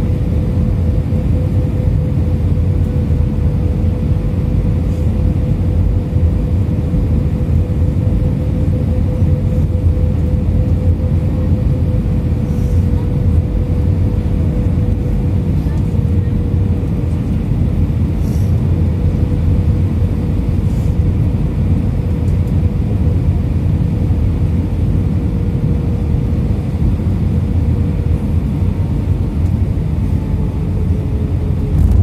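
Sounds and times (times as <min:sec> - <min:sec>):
aircraft cabin engine rumble: 0:00.0 - 0:32.0.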